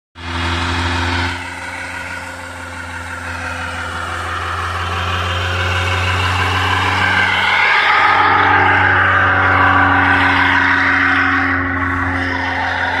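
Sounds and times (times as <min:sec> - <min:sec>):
engine at high revs: 0:00.2 - 0:13.0
tyre squealing on road: 0:00.2 - 0:13.0.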